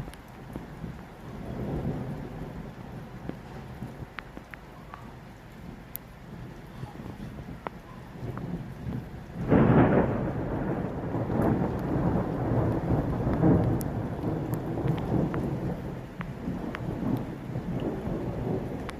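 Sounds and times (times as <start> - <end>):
raindrops ticking: 0.0 - 18.9
steady rain: 0.0 - 18.9
thunder rumbling: 0.0 - 18.9.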